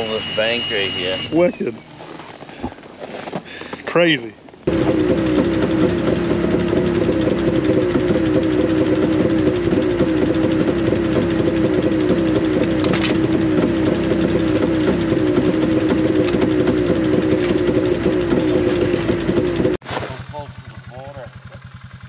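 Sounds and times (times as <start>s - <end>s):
engine idling loudly: 0.0s - 1.7s, 4.7s - 22.0s.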